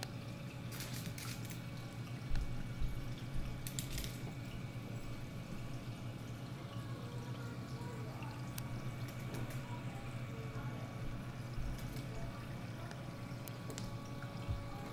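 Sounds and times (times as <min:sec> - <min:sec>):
steady low hum: 0:00.0 - 0:14.9
water trickling and dripping: 0:00.0 - 0:14.9.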